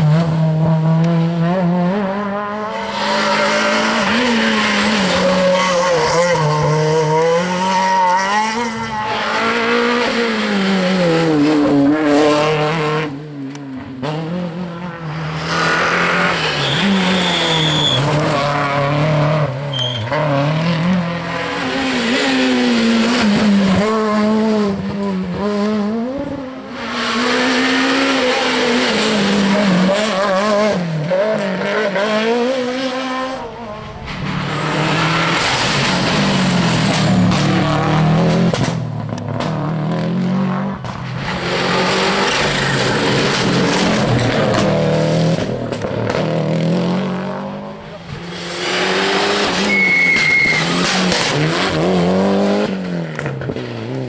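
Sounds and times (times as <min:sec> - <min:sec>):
rally cars passing at speed: 0:00.0 - 0:54.0.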